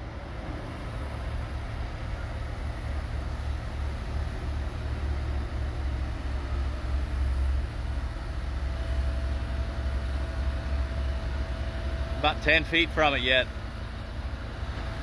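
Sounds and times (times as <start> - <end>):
diesel truck engine rumbling: 0.0 - 15.0
faint steady whine: 0.0 - 15.0.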